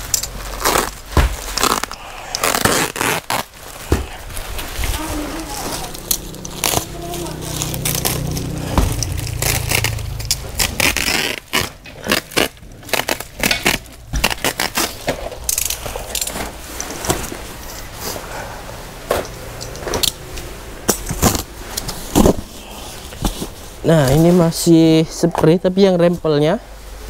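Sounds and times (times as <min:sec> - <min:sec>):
plastic sack tearing and rustling: 0:00.0 - 0:18.3, 0:21.0 - 0:24.7.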